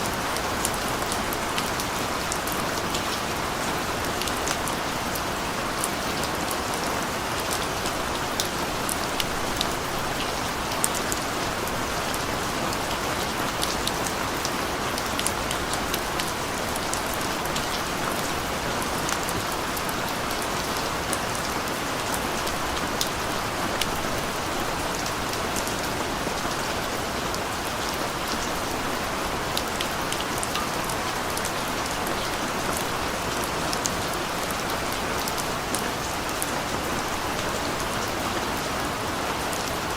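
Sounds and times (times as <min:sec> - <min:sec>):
rain falling on a street: 0:00.0 - 0:39.9.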